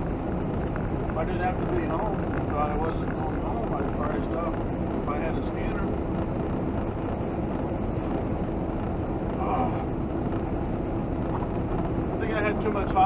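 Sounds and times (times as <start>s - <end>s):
truck engine hum: 0.0s - 13.0s
tyre and road noise: 0.0s - 13.0s.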